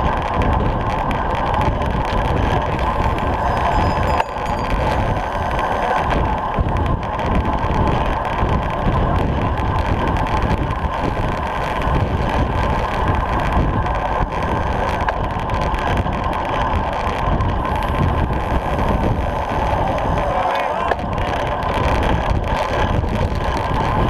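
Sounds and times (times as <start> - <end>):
bike tyres humming on tarmac: 0.0 - 24.0
wind rushing over microphone: 0.0 - 24.0.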